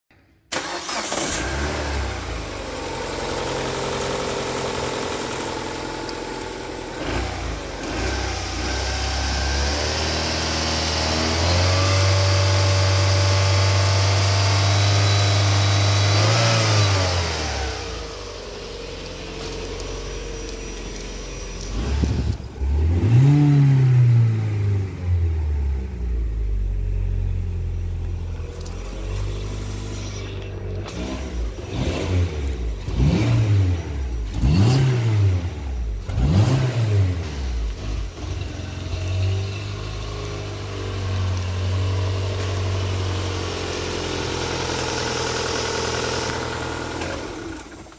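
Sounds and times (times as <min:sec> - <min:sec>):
car engine idling and revving: 0:00.5 - 0:47.9.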